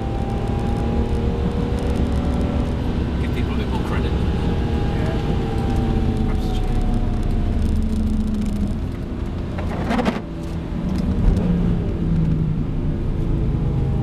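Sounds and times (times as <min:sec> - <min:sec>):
car engine from inside cabin: 0:00.0 - 0:14.0
tyre and road noise: 0:00.0 - 0:14.0.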